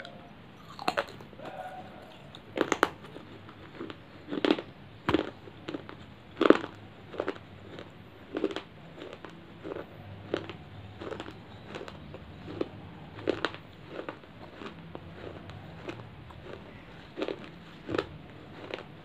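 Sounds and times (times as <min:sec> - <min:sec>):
chewing crunchy clay chips: 0:00.0 - 0:19.0.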